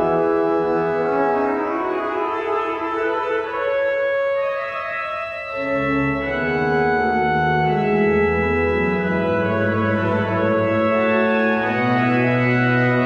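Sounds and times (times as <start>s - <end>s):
pipe organ playing slow music: 0.0s - 13.0s.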